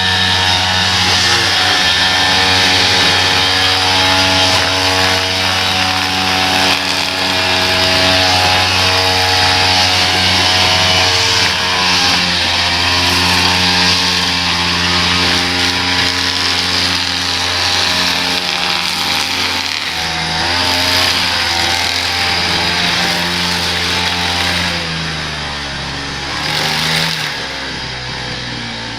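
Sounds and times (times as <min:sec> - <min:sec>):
small gasoline engine running: 0:00.0 - 0:28.9.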